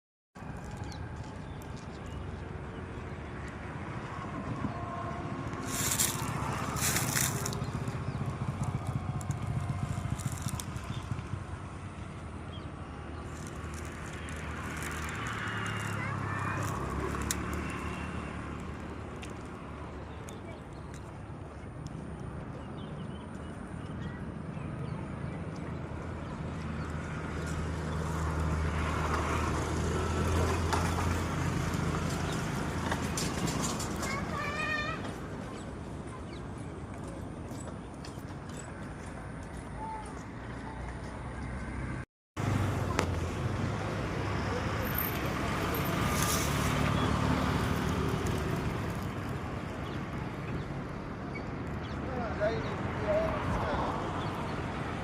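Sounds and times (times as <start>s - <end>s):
road noise: 0.4s - 55.0s
vehicle engine hum: 0.4s - 55.0s.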